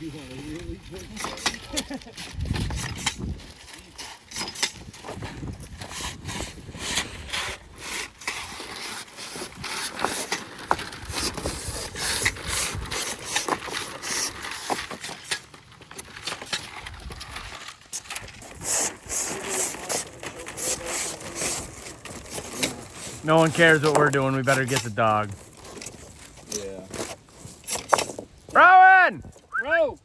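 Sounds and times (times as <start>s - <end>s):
scraping and rubbing: 0.0s - 28.6s.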